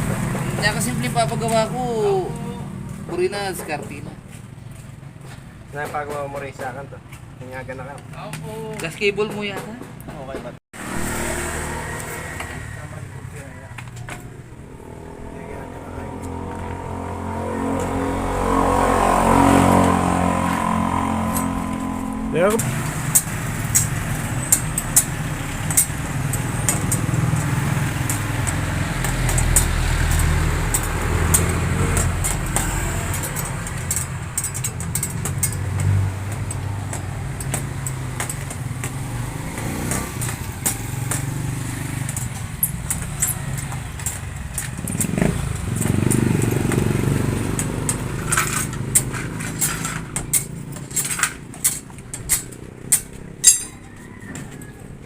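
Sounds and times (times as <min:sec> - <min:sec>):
motorcycle engine revving: 0:00.0 - 0:08.0, 0:08.7 - 0:55.0.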